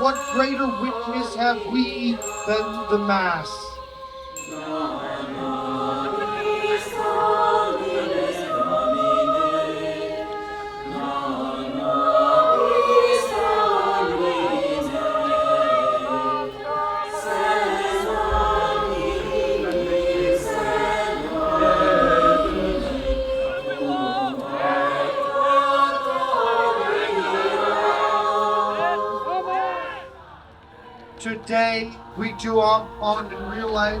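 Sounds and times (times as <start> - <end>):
choir singing sacred chant: 0.0 - 34.0.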